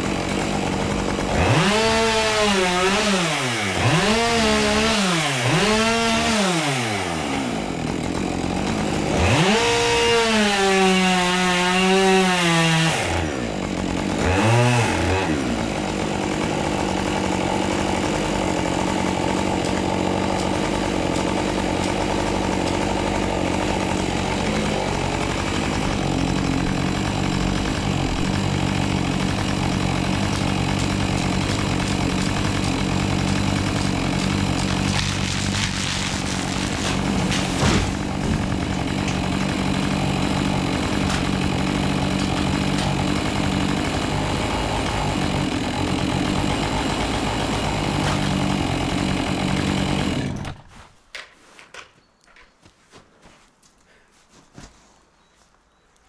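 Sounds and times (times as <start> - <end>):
chainsaw revving and idling: 0.0 - 50.7.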